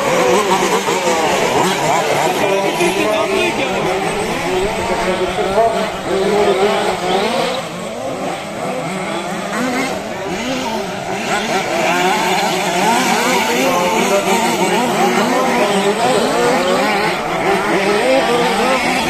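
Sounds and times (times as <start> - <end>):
rc car engines revving: 0.0 - 19.0.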